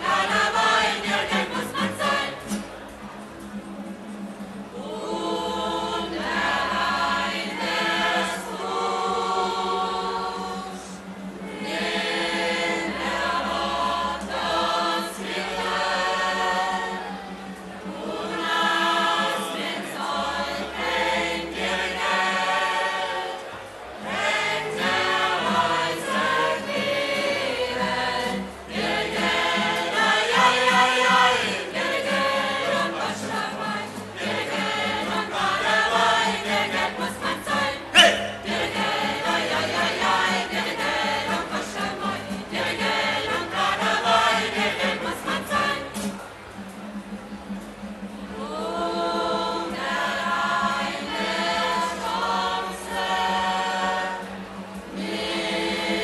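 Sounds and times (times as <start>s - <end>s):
choir singing: 0.0s - 2.8s, 4.6s - 46.2s, 48.3s - 56.0s
acoustic guitar: 0.0s - 56.0s.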